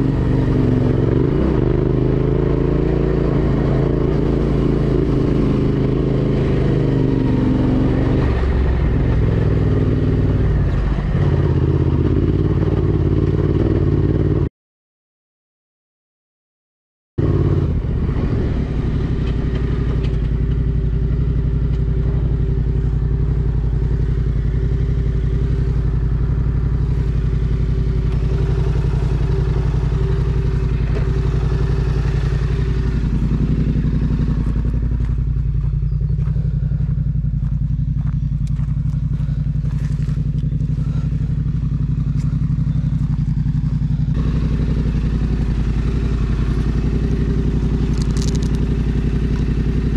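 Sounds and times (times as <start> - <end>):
motorcycle engine running: 0.0 - 14.5, 17.2 - 49.9.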